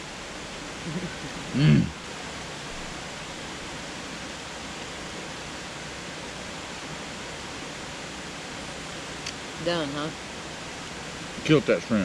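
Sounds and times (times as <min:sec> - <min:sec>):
steady rushing background noise: 0:00.0 - 0:12.0.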